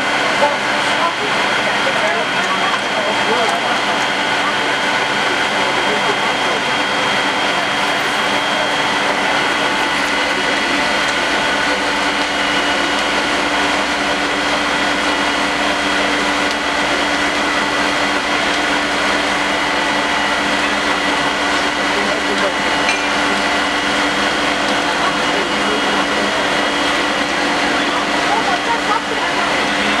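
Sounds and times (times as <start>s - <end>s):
loud mechanical drone: 0.0s - 30.0s.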